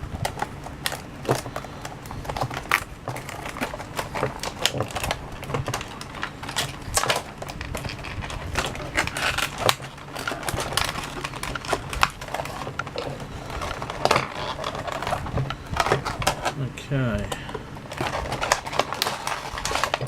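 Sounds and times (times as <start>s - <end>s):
packaging crinkling: 0.0s - 20.0s
sharp plastic clicks and crackles: 0.2s - 16.6s, 17.2s - 20.0s.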